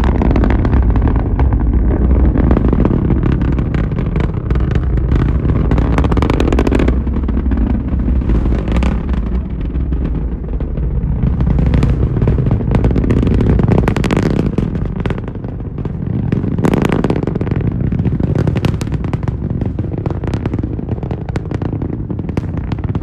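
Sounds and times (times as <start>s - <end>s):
distant rocket engines rumbling: 0.0s - 23.0s
rocket crackling and popping: 0.0s - 23.0s.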